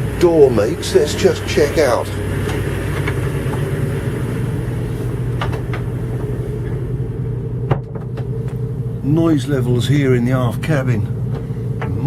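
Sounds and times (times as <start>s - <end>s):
muffled boat engine hum: 0.0s - 12.0s.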